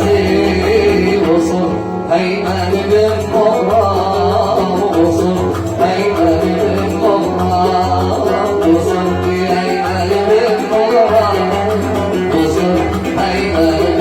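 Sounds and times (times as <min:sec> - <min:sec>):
oud melody: 0:00.0 - 0:14.0.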